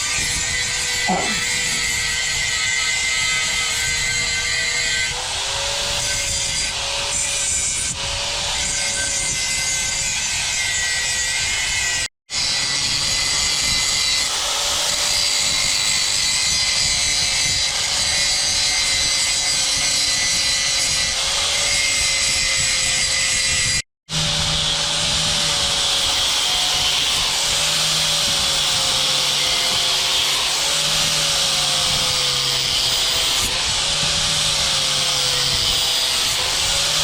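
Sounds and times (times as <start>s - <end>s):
power tool motor whine and scrape: 0.0s - 37.0s.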